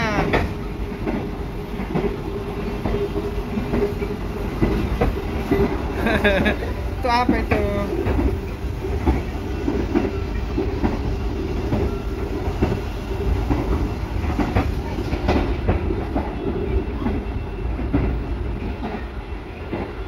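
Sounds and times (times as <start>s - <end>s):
train rumble: 0.0s - 20.0s
wheels clacking on track: 0.0s - 20.0s.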